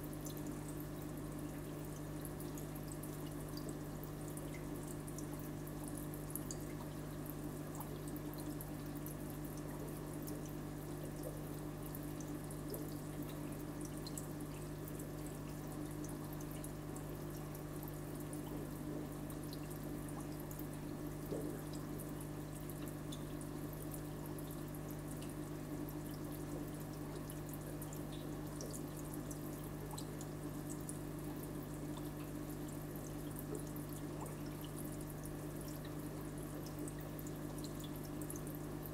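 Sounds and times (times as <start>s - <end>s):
aquarium water trickling and bubbling: 0.0s - 38.9s
low electric hum: 0.0s - 38.9s
water drips and pops: 0.2s - 38.9s.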